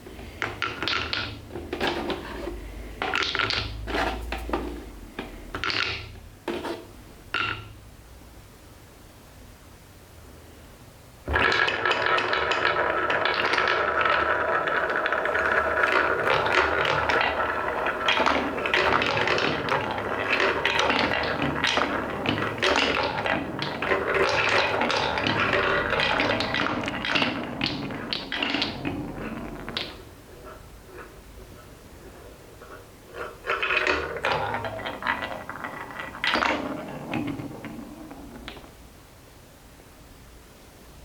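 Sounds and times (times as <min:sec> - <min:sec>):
wooden balls clattering down track: 0:00.0 - 0:07.8, 0:11.3 - 0:38.8.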